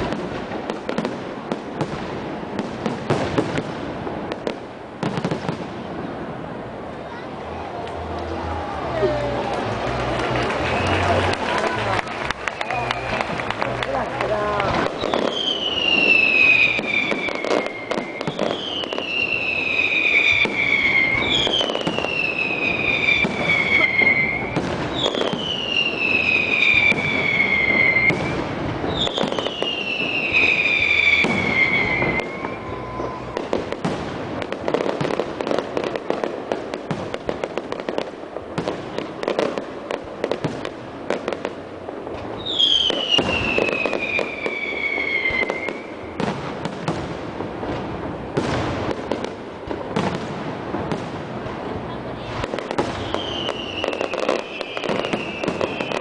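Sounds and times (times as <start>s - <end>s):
fireworks bangs and crackle: 0.0s - 56.0s
whistling fireworks: 0.0s - 56.0s.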